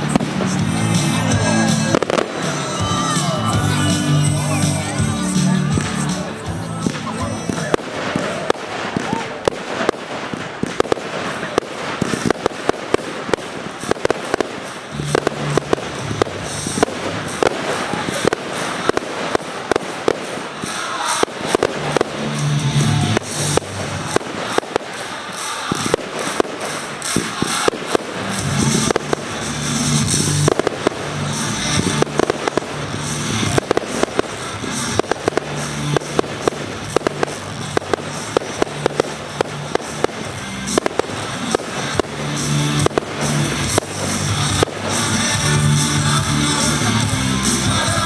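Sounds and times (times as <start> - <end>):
fireworks bangs and crackles: 0.0 - 48.0
music playing: 0.0 - 48.0.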